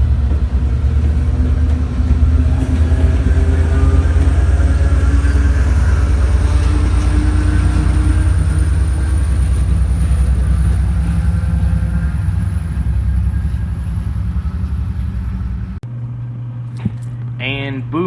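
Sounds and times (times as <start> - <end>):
diesel locomotive engine drone: 0.0 - 16.6.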